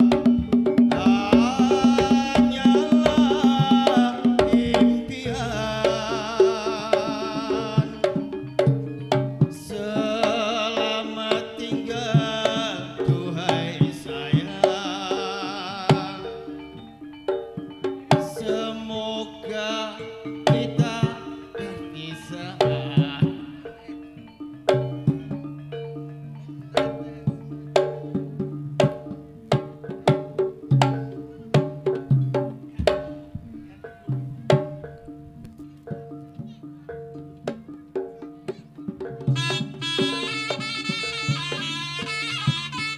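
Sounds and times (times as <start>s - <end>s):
hand-drum strokes: 0.0s - 42.9s
metallophones ringing: 0.0s - 42.9s
reedy shawm melody: 0.0s - 42.9s.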